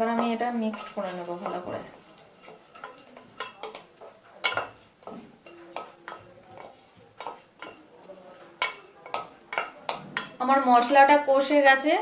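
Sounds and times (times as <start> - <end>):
spoon knocking and scraping pan: 0.0 - 11.6.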